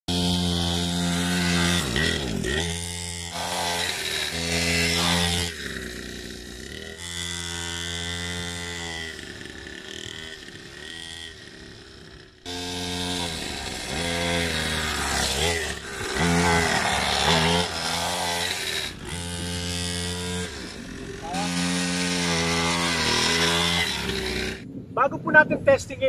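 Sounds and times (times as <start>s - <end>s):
two-stroke engine revving: 0.0s - 24.7s.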